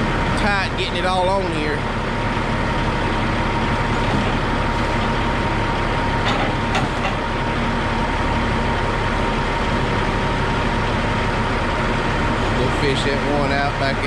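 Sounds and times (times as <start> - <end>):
heavy equipment engine running: 0.0 - 14.0.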